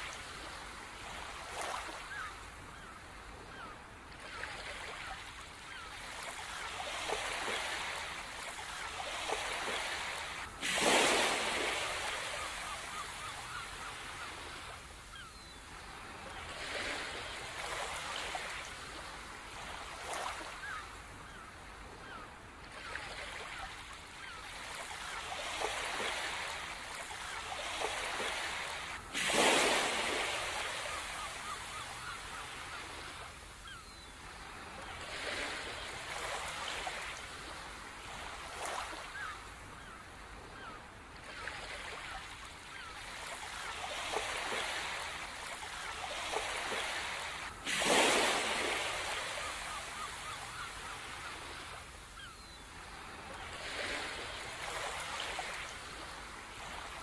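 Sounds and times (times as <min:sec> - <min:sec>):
waves breaking: 0:00.0 - 0:57.0
waves washing in and out: 0:00.0 - 0:57.0.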